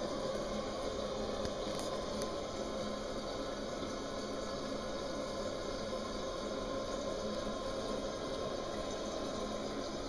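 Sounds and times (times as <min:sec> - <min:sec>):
toilet refilling hiss: 0:00.0 - 0:10.0.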